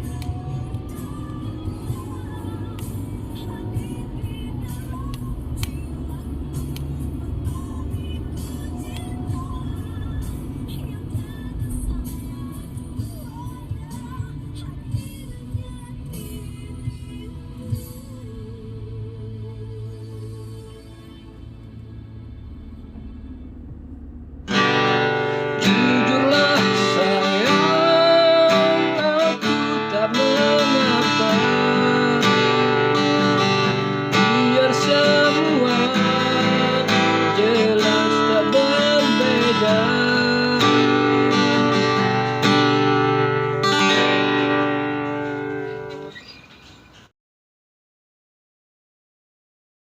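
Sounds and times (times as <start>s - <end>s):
guitar music: 0.0s - 18.5s, 19.8s - 46.4s.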